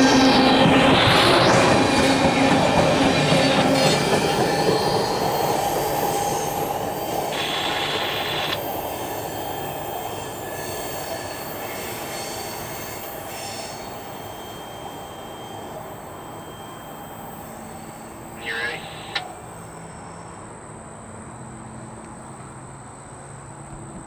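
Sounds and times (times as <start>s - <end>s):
high wheel squeal: 0.0s - 20.4s
train cars rolling on rails: 0.0s - 20.6s.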